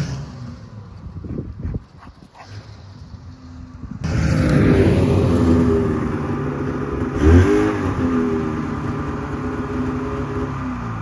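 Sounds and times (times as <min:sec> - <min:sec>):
snowmobile engine revving: 0:00.0 - 0:00.8, 0:02.4 - 0:11.0.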